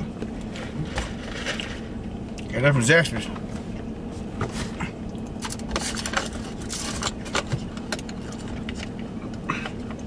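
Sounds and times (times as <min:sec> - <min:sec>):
car idling hum: 0:00.0 - 0:10.0.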